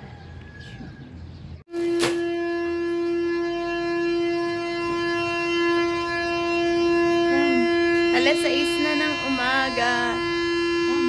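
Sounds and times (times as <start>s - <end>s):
siren steady tone: 1.6s - 11.0s.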